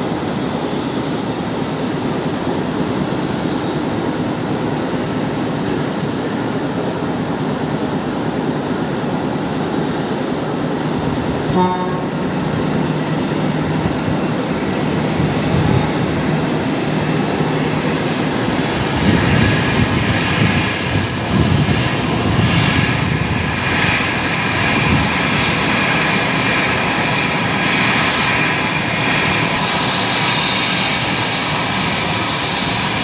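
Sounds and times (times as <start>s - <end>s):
jet engines idling: 0.0s - 33.0s.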